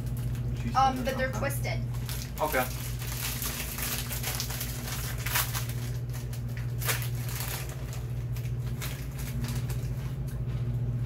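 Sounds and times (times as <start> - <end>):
plastic snack bag crinkling: 0.0 - 0.8, 1.8 - 10.4
steady low hum: 0.0 - 11.0.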